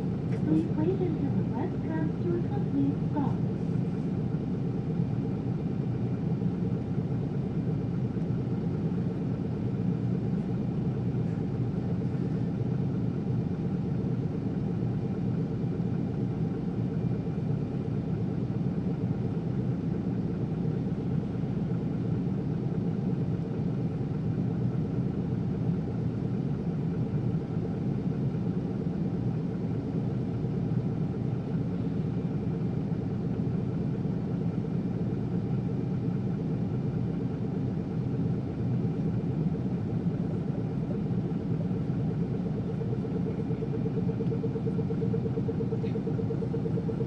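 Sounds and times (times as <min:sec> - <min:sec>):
bus diesel engine rumble: 0:00.0 - 0:47.0.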